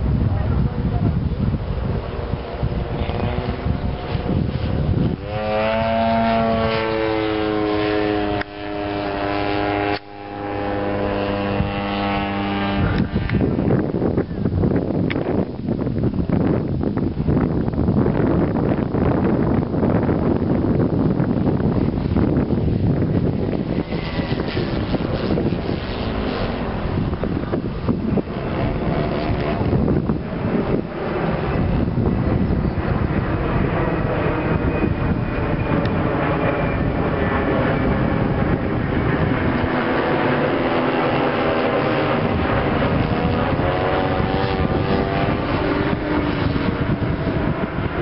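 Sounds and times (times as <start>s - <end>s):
wind noise on microphone: 0.0s - 48.0s
model aircraft engine running: 0.7s - 15.3s, 16.2s - 48.0s.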